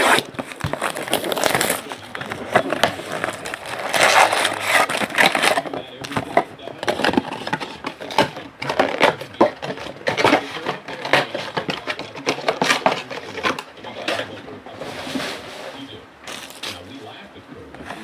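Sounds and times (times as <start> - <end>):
packaging crinkling and tearing: 0.0 - 14.4, 16.3 - 16.8.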